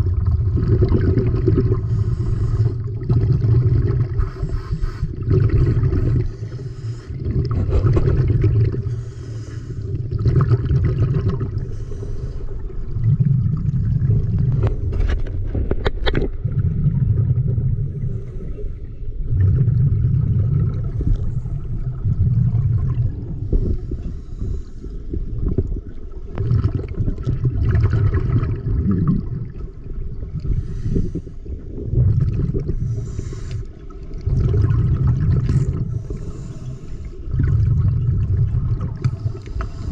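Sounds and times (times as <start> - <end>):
muffled underwater water surges: 0.0 - 39.9.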